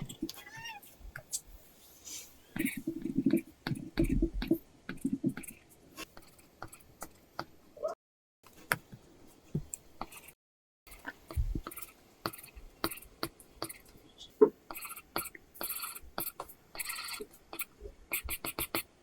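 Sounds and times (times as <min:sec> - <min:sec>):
stylus tapping and scratching on screen: 0:02.6 - 0:19.0.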